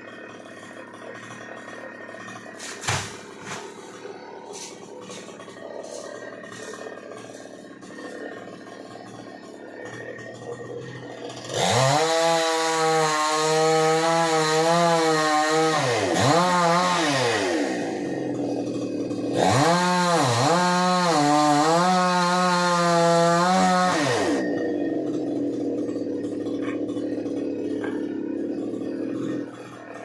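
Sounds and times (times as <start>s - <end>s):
chainsaw engine revving: 0.0s - 30.0s.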